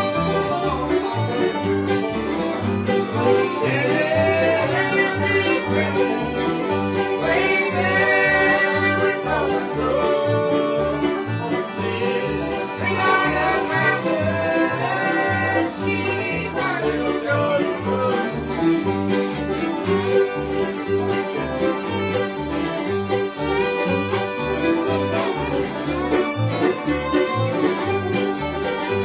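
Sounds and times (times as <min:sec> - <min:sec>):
fiddle melody: 0:00.0 - 0:29.0
picked strings: 0:00.0 - 0:29.0.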